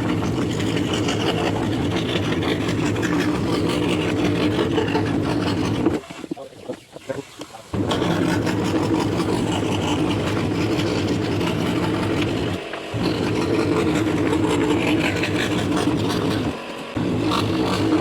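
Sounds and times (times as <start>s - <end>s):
scroll saw humming: 0.0s - 6.3s, 7.7s - 18.0s.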